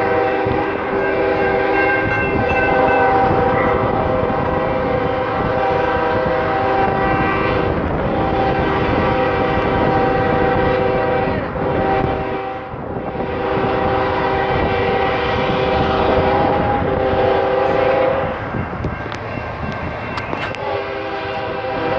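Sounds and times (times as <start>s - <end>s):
locomotive air horn blasts: 0.0s - 21.9s.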